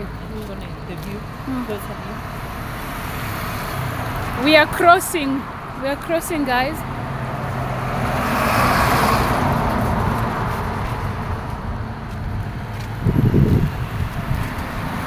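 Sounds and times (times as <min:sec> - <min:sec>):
steady traffic noise: 0:00.0 - 0:15.0
truck passing close: 0:00.0 - 0:15.0.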